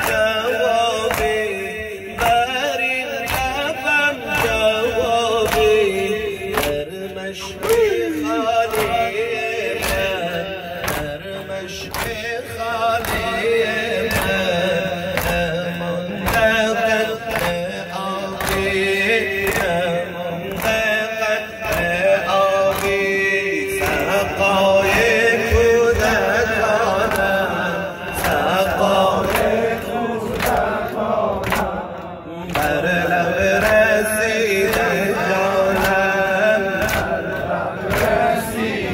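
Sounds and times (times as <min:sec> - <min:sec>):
man chanting through microphone: 0:00.0 - 0:38.9
rhythmic hand slaps: 0:00.0 - 0:38.9.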